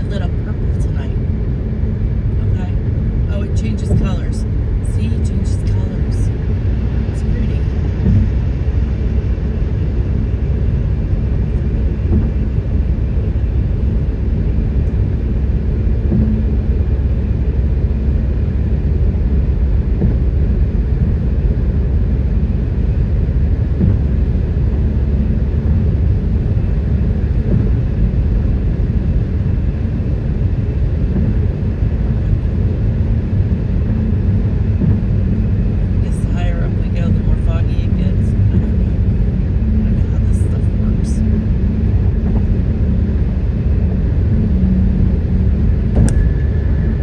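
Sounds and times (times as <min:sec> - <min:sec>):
road and engine rumble in cabin: 0:00.0 - 0:47.0.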